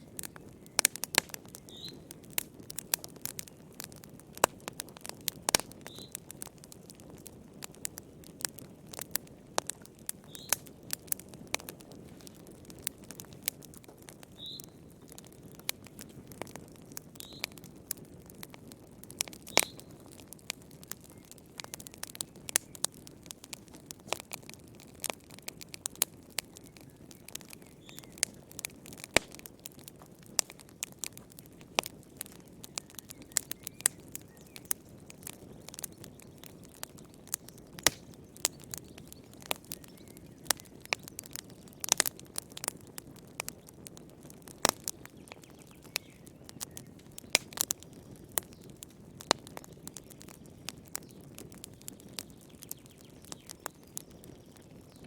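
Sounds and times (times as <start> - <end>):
wood fire crackling: 0.0 - 55.0
low rush of burning: 0.1 - 54.1.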